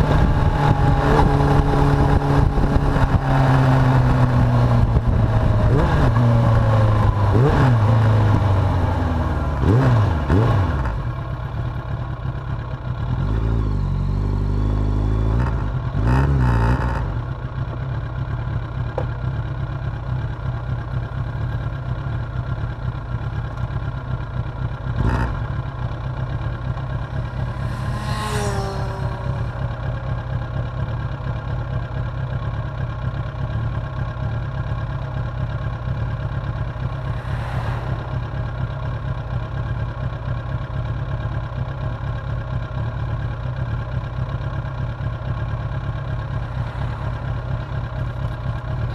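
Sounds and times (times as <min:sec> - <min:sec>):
motorcycle engine revving: 0:00.0 - 0:19.1, 0:22.4 - 0:48.9.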